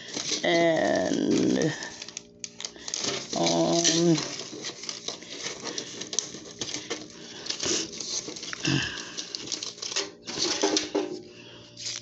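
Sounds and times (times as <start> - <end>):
medicine packaging crinkling: 0.0 - 12.0.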